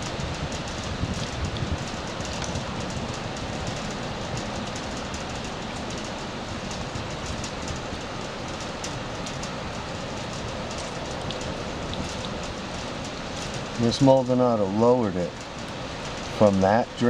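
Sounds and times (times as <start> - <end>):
running floodwater: 0.0 - 17.0
steady rain: 0.0 - 17.0.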